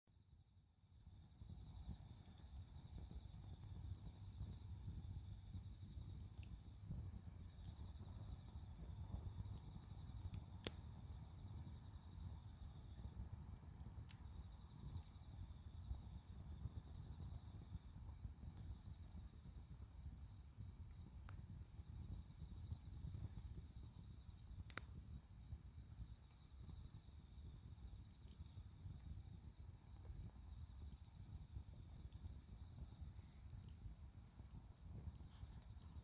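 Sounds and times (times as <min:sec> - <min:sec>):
fire crackles and pops: 0:00.2 - 0:36.0
fire rumbling: 0:00.2 - 0:36.0.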